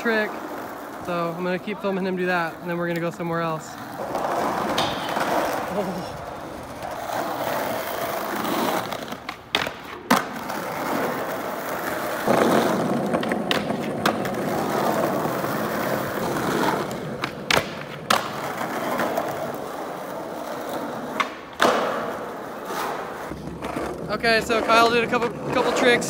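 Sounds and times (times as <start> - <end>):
skateboard clacking: 0.0 - 26.0
skateboard trucks grinding concrete: 0.0 - 26.0
skateboard wheels rolling on concrete: 0.0 - 26.0.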